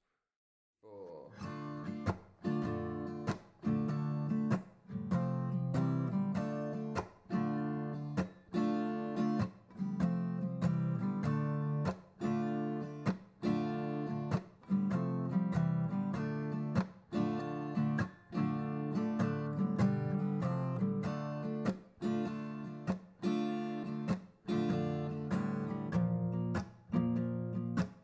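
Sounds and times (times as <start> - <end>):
strummed acoustic guitar: 1.4 - 28.0.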